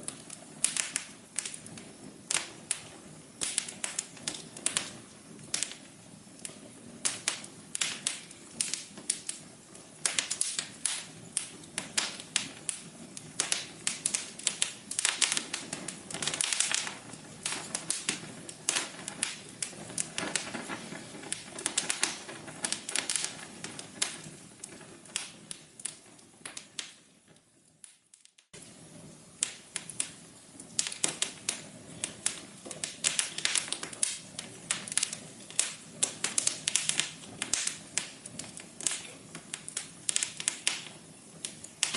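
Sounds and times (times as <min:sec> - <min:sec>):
soft hiss: 0:00.0 - 0:41.9
wood fire crackling: 0:00.0 - 0:41.9.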